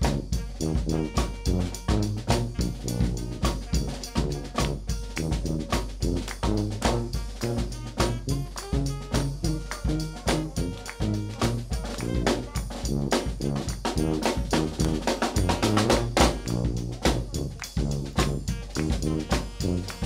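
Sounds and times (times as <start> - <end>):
bass drum and snare beat: 0.0 - 20.0
brass band playing jazz: 0.0 - 20.0
sousaphone bass line: 0.0 - 20.0.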